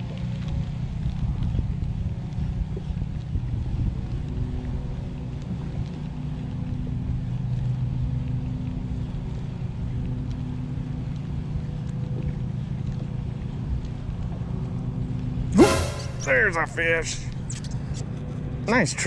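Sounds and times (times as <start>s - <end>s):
motorboat engine running: 0.0s - 15.4s.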